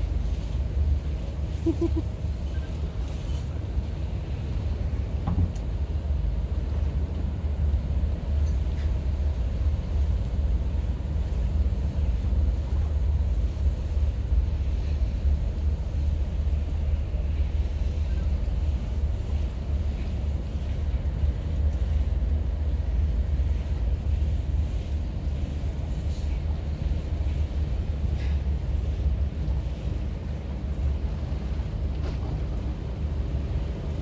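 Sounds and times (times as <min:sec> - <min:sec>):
boat engines rumbling: 0:00.0 - 0:34.0.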